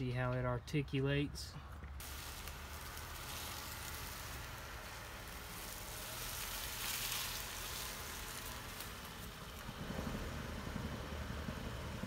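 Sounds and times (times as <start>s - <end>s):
low engine rumble: 0.0s - 12.0s
tyres hissing on loose ground: 2.0s - 12.0s.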